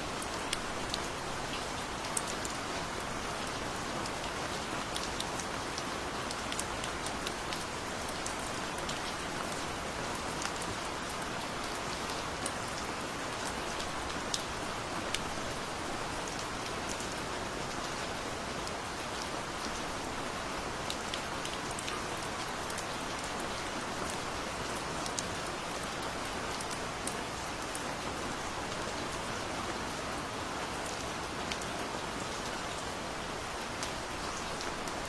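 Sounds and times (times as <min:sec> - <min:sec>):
gentle rain: 0:00.0 - 0:35.0.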